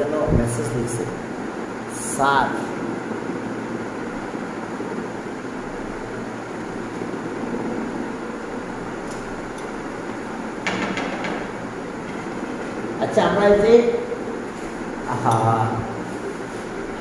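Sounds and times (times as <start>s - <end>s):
machine-like background noise: 0.0s - 17.0s.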